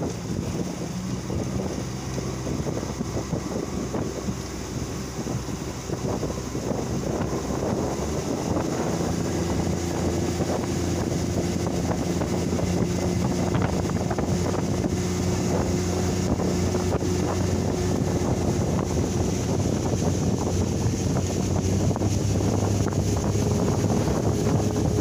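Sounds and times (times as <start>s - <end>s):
boat motor running: 0.0s - 25.0s
wind noise on microphone: 0.0s - 25.0s.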